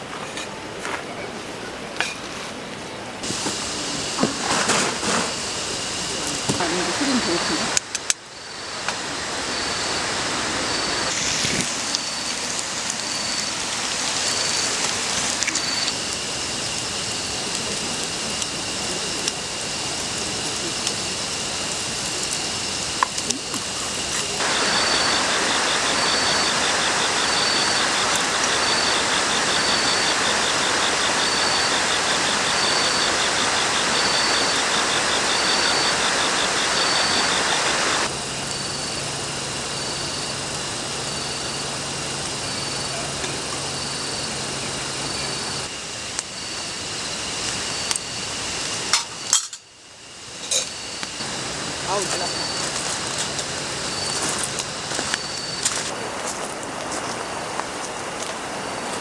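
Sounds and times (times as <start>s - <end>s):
meat sizzling on a grill: 3.2s - 49.5s, 50.2s - 55.9s.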